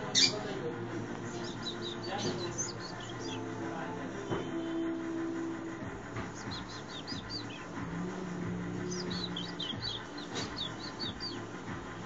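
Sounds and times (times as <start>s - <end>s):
lovebirds chirping: 0.0s - 0.6s, 1.2s - 4.9s, 5.9s - 11.5s.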